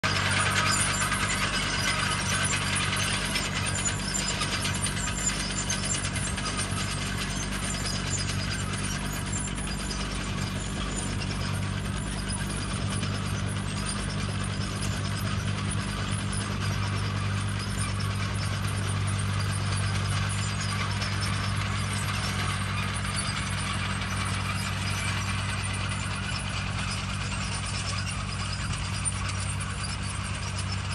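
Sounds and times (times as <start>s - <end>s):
hay rake mechanical clatter: 0.0s - 30.9s
tractor engine running under load: 0.0s - 30.9s.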